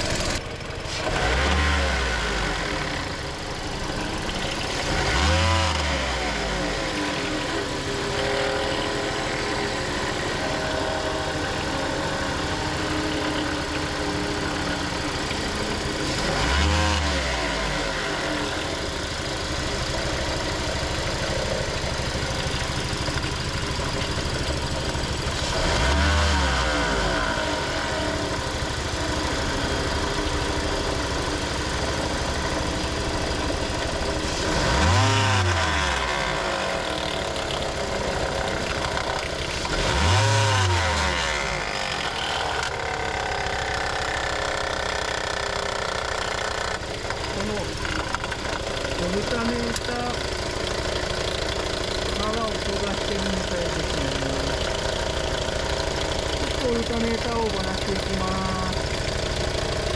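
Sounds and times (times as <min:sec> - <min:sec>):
car engine idling: 0:00.0 - 0:59.9
loud abnormal mechanical noise: 0:00.0 - 0:59.9.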